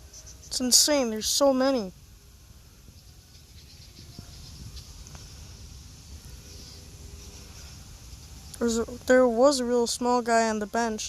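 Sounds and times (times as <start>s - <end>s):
small birds chirping: 0.0s - 2.0s, 2.6s - 11.0s
steady low rumble: 0.0s - 11.0s.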